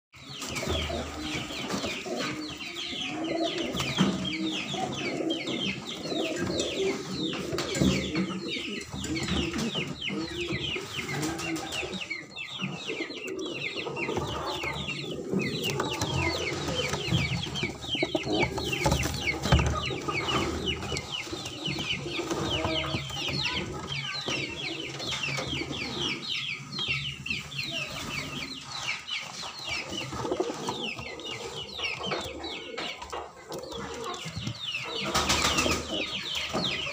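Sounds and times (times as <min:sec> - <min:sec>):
birds chirping rapidly: 0:00.2 - 0:36.9
pigeons cooing: 0:00.3 - 0:36.9.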